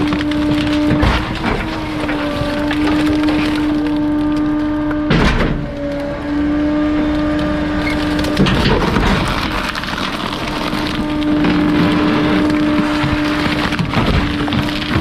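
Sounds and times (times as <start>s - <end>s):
crunching crash: 0.0s - 15.0s
hydraulic compactor humming: 0.0s - 15.0s.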